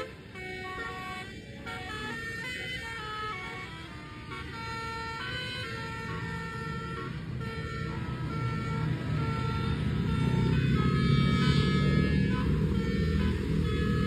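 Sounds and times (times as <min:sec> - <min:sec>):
bus engine rumbling: 0:00.0 - 0:14.0
multi-tone air horn melody: 0:00.0 - 0:14.0.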